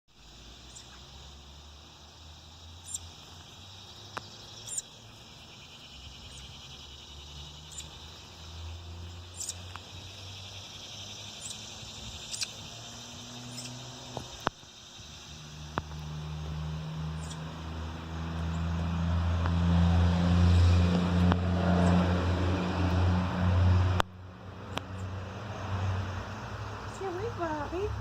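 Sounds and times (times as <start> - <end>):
insects trilling: 0.1 - 28.0.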